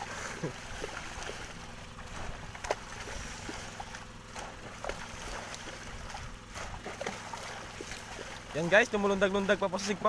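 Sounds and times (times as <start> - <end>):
steady low hum: 0.0 - 10.0
water splashing and churning: 0.0 - 10.0.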